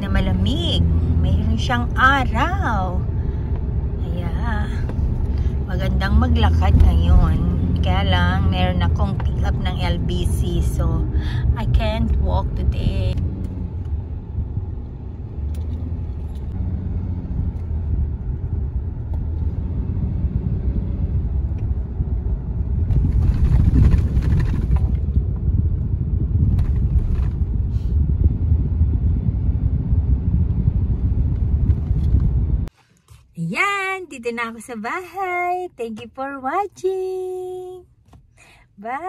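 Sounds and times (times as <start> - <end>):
engine and tyre rumble: 0.0 - 33.4.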